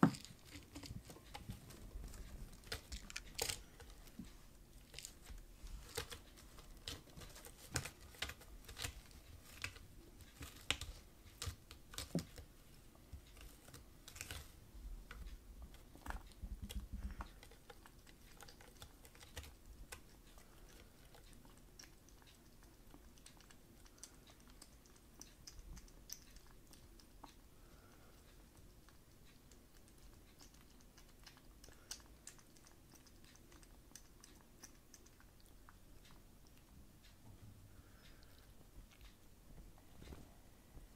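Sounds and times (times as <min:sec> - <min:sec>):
kittens tapping and scratching: 0:00.0 - 0:40.3.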